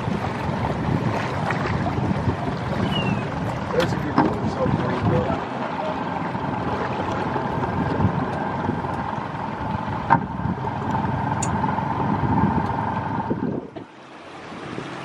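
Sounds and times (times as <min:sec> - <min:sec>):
wind noise on microphone: 0:00.0 - 0:05.4, 0:07.5 - 0:09.0, 0:09.6 - 0:15.0
boat engine rumble: 0:00.0 - 0:15.0.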